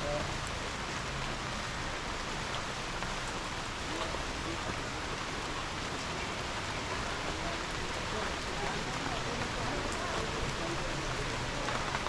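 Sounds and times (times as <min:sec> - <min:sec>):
rain on foliage: 0:00.0 - 0:12.0.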